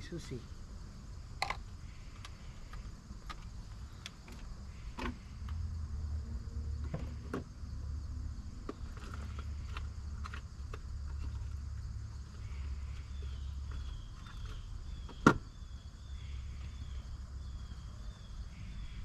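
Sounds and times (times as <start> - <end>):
low car hum: 0.0 - 19.0.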